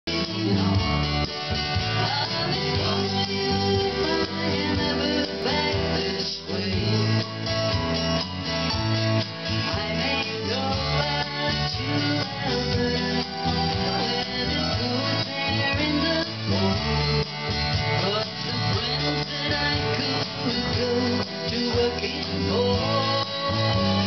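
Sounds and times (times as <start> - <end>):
live country music: 0.1 - 24.0
strummed guitar: 0.1 - 24.0.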